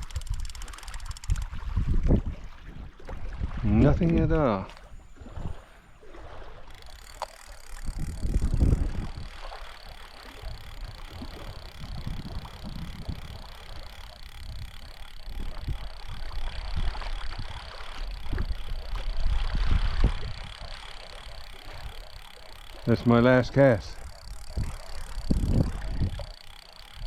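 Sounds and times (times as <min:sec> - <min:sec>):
wind rumbling on microphone: 0:00.0 - 0:22.2, 0:22.8 - 0:26.4
fishing reel cranking: 0:00.0 - 0:27.0.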